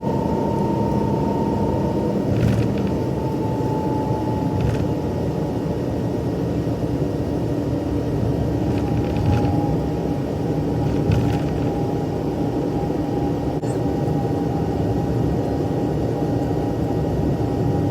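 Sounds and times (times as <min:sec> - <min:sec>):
jet engines rumbling and whining: 0:00.0 - 0:17.9.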